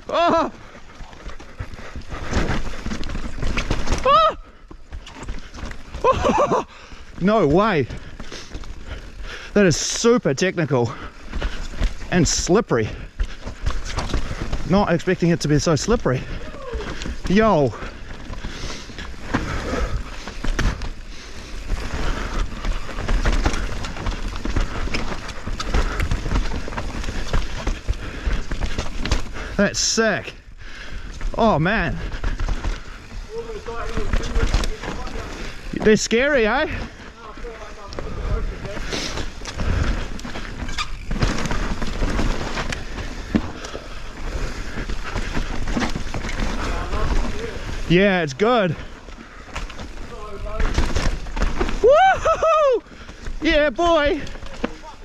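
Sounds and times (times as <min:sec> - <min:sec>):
bike tyres rolling over dirt: 0:00.0 - 0:55.0.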